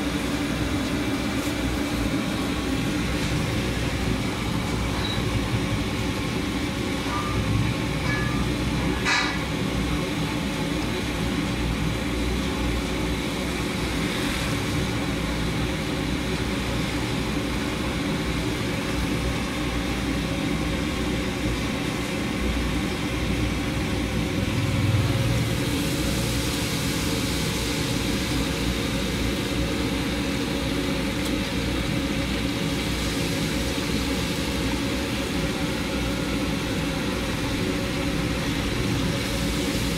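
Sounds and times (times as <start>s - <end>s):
oil sizzling in a wok: 0.0s - 39.9s
street traffic rumble: 0.0s - 39.9s.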